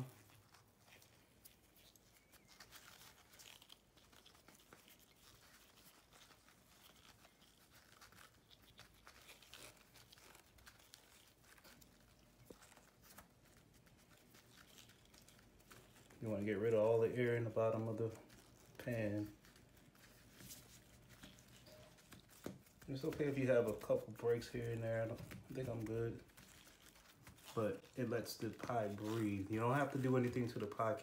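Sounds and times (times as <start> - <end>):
gloved hands rustling: 0.0 - 31.0.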